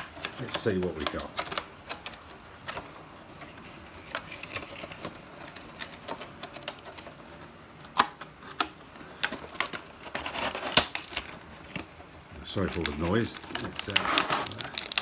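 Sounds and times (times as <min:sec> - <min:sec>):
cellophane crinkling: 0:00.0 - 0:15.0.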